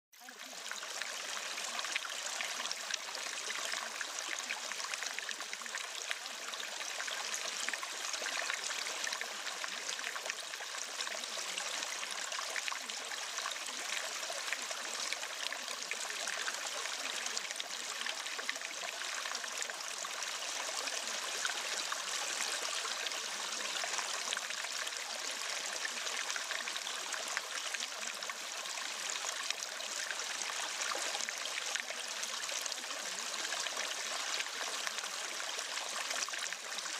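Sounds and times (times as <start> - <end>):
flowing water: 0.2 - 36.9.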